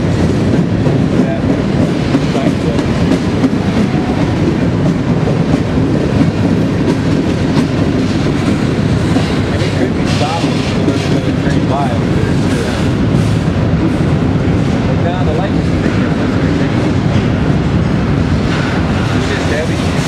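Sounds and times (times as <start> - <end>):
freight train rumbling in tunnel: 0.0 - 20.0
train wheels clicking: 0.0 - 20.0.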